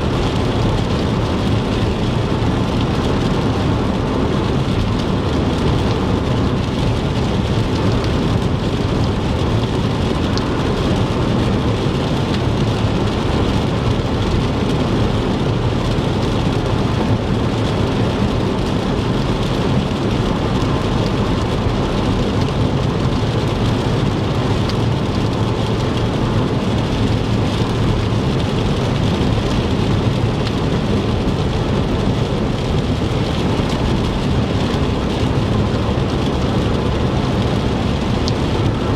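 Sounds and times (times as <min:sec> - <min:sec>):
rain hitting car: 0:00.0 - 0:38.9
tyres rumbling on wet road: 0:00.0 - 0:38.9.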